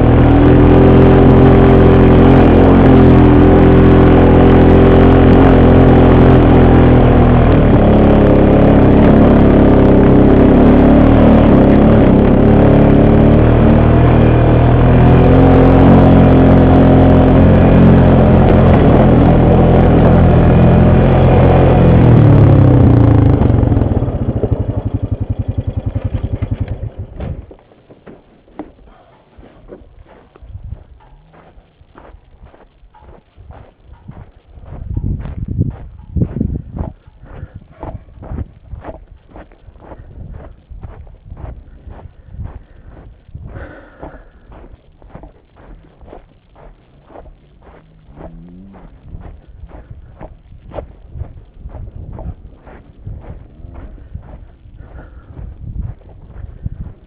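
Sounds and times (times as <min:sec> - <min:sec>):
atv engine running: 0:00.0 - 0:27.6, 0:29.3 - 0:57.0.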